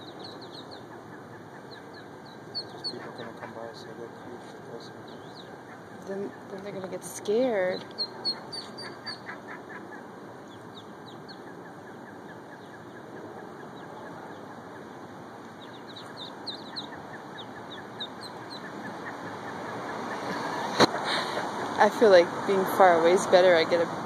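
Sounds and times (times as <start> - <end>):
ducklings peeping: 0.0 - 22.0.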